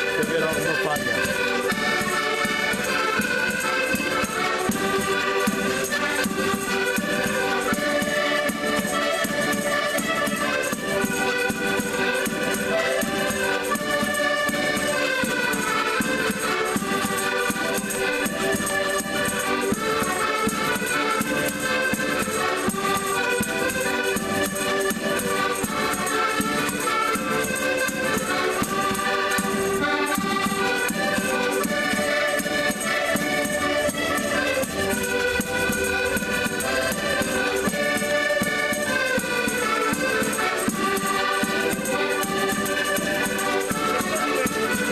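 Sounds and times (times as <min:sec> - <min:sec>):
button accordions playing a tune: 0:00.0 - 0:44.9.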